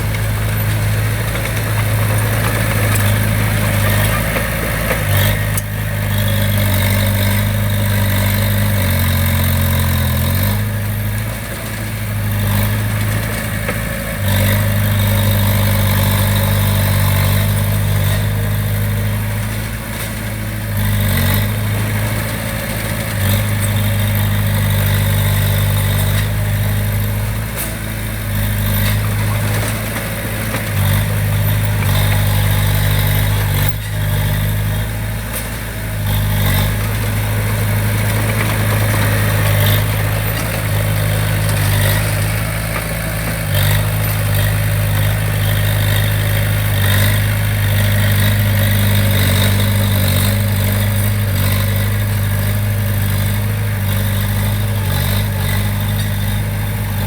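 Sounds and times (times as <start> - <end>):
construction machinery engine humming: 0.0 - 57.0.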